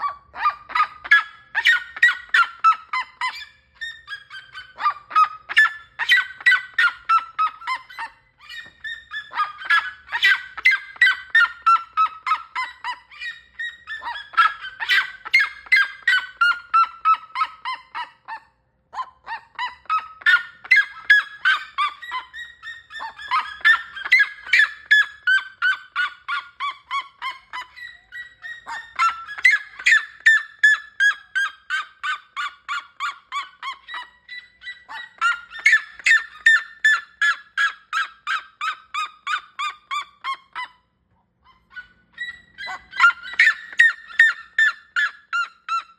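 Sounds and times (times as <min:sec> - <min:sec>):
bird yelping calls: 0:00.0 - 0:40.9, 0:41.5 - 0:45.9.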